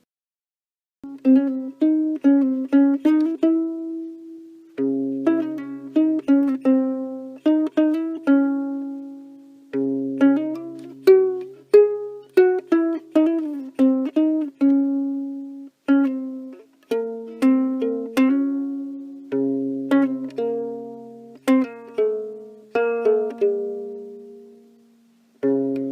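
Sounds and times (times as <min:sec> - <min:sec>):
plucked ukulele notes: 0:01.0 - 0:25.9.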